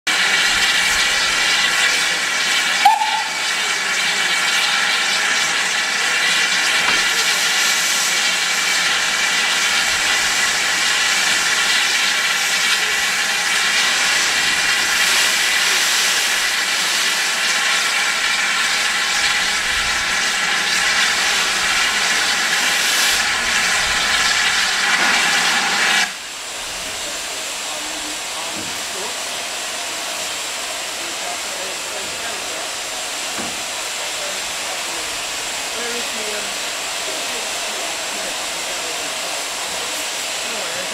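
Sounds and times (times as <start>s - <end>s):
steam hissing loudly: 0.1s - 40.9s.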